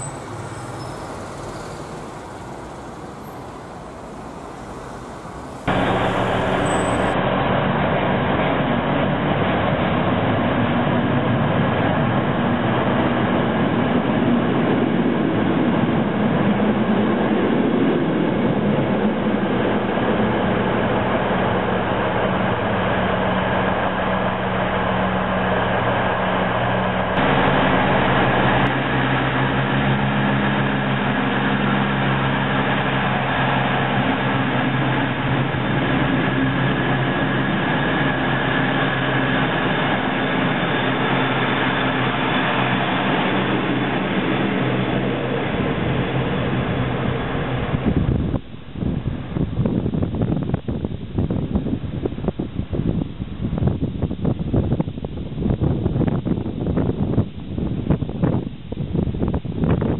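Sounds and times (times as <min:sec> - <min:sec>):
rushing rail noise: 0:00.0 - 0:50.6
steady low hum: 0:00.0 - 0:59.9.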